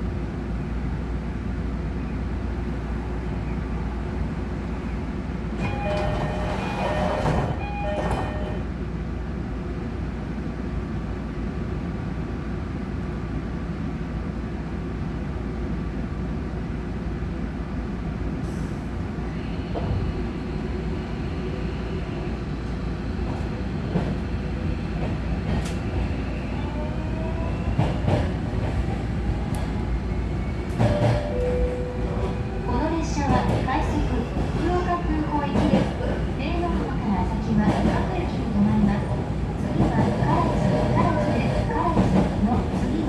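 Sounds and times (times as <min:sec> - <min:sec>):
train wheels rumbling on rail: 0:00.1 - 0:14.2, 0:14.9 - 0:43.0.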